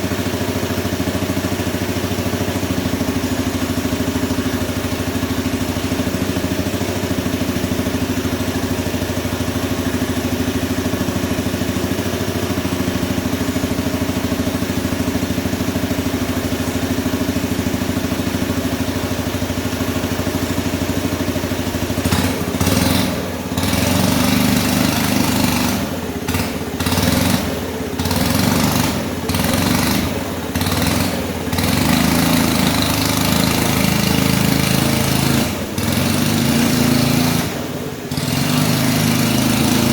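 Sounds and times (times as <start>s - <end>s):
small engine idling and revving: 0.0s - 39.9s.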